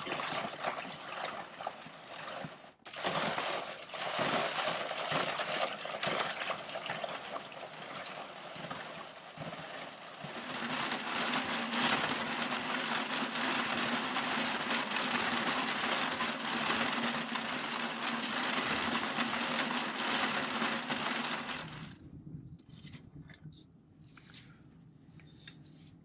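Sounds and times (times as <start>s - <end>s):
hand-crank ice cream freezer whirring: 0.0s - 22.0s.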